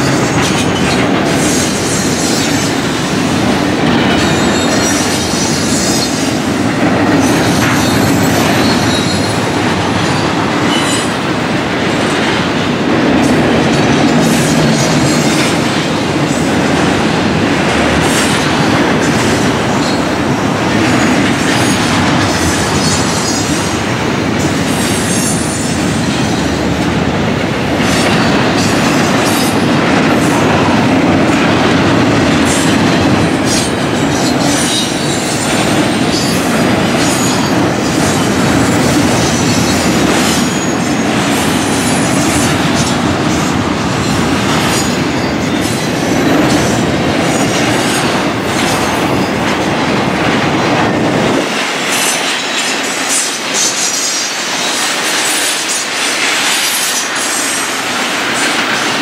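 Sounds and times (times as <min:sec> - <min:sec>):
freight train deep rumble: 0:00.0 - 0:59.0
wheels clacking over rail joints: 0:00.0 - 0:59.0.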